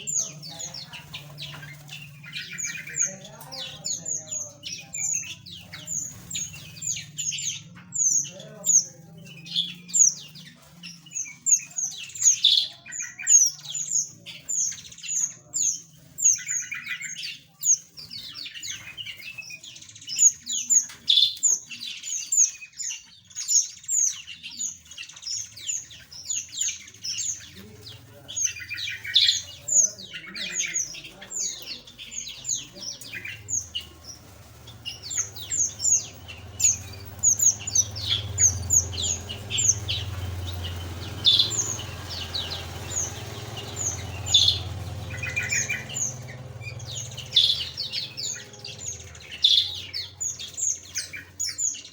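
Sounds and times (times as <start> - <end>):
buzzy rattling bird calls: 0.0 - 51.9
small birds chirping and squawking: 0.0 - 51.9.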